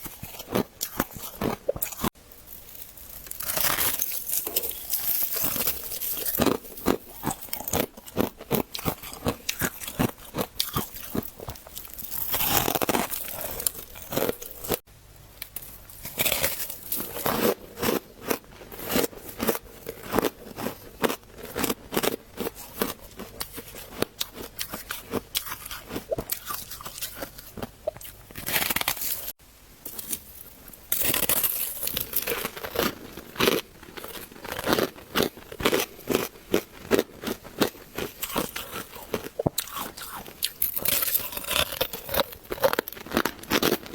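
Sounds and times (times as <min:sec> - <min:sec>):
crunching of frost being chewed: 0:00.0 - 0:14.8, 0:15.4 - 0:43.9.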